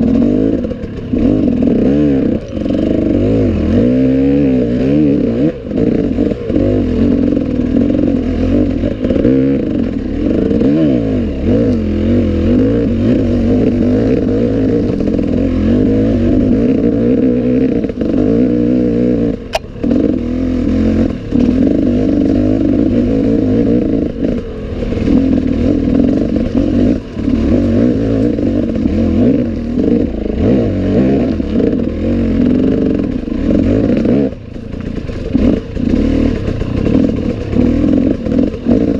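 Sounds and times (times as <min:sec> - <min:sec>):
motorcycle engine revving: 0:00.0 - 0:38.9
motorcycle rattling: 0:00.0 - 0:38.9.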